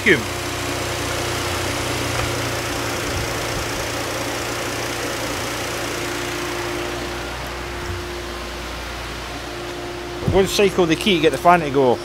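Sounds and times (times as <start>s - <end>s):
car engine idling: 0.0s - 12.0s
electric radiator fan running: 0.0s - 12.0s.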